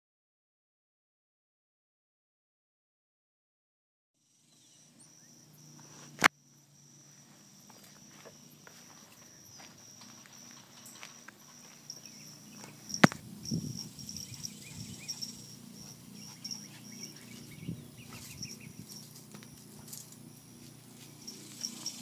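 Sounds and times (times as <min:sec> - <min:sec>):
insects chirping: 0:04.2 - 0:22.0.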